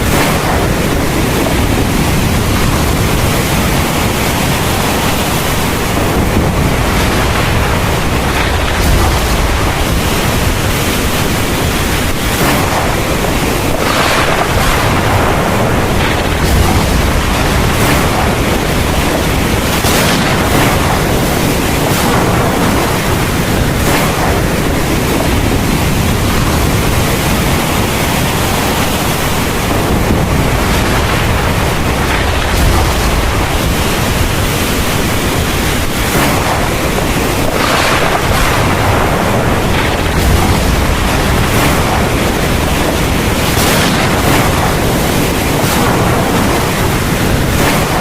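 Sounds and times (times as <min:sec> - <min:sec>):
heavy rain pouring: 0:00.0 - 0:48.0
low thunder rumble: 0:00.0 - 0:48.0.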